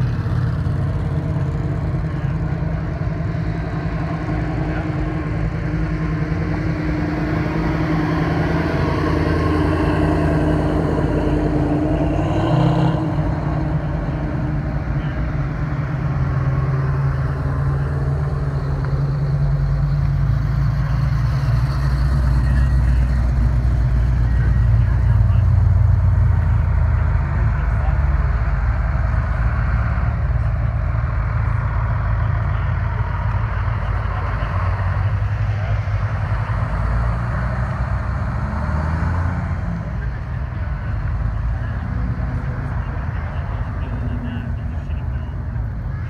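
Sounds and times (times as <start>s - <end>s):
car engines at low revs: 0.0s - 46.0s.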